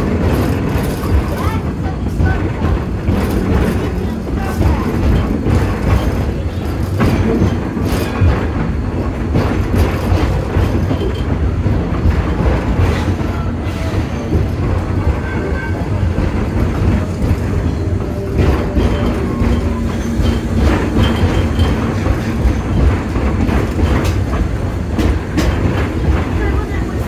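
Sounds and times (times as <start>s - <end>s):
train rumbling on board: 0.0s - 27.0s
wheels clicking over rail joints: 0.0s - 27.0s.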